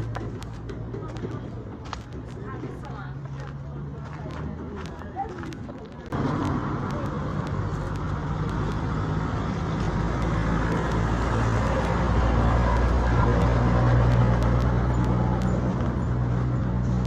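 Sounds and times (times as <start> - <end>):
engine humming: 0.0 - 17.0
traffic noise: 0.0 - 17.0.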